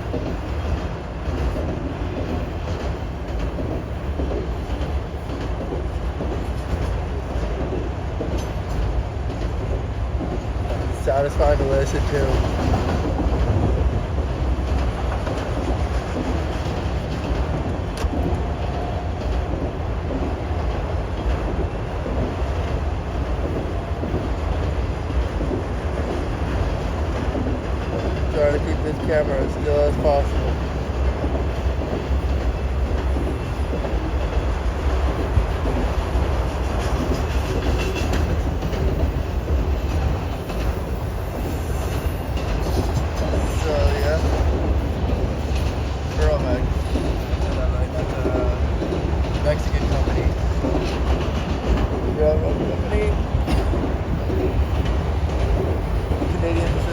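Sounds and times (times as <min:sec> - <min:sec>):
clickety-clack over rail joints: 0:00.0 - 0:56.9
freight train rolling past: 0:00.0 - 0:56.9.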